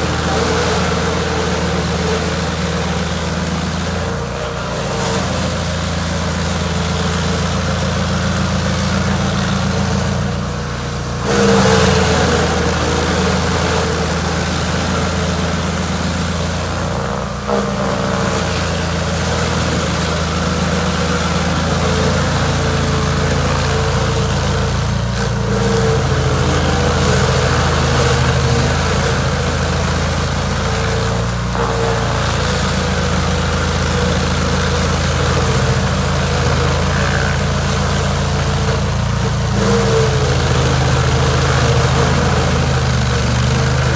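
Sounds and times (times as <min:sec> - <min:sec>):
chainsaw engine running: 0:00.0 - 0:43.9.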